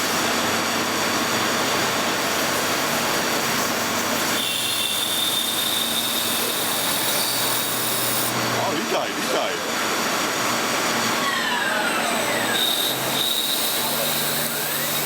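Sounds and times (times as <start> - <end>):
high machine whine: 0.0 - 15.0
lathe machining noise: 0.0 - 15.0.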